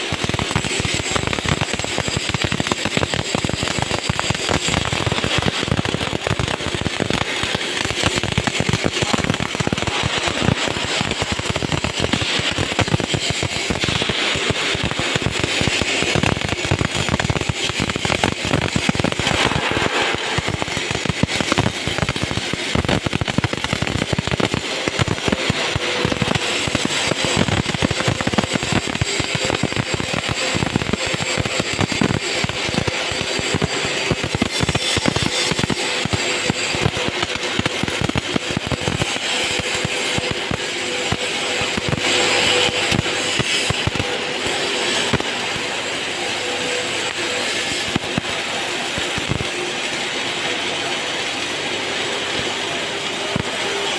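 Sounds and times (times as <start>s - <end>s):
arc welding crackle: 0.0s - 53.9s.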